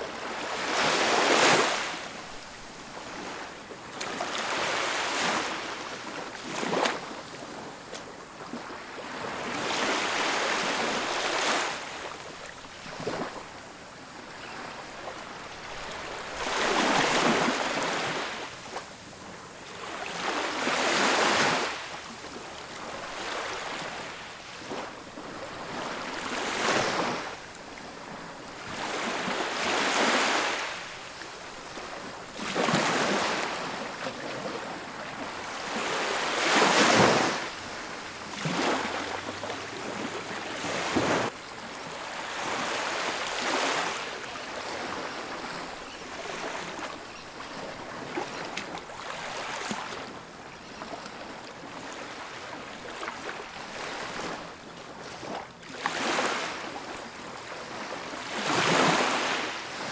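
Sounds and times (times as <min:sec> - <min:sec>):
ocean waves breaking: 0:00.0 - 0:07.7, 0:08.4 - 0:59.9.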